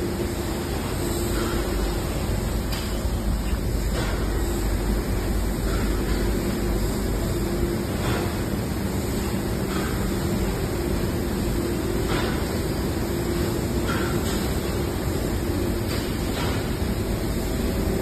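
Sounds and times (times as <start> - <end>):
factory machinery humming: 0.0 - 18.0.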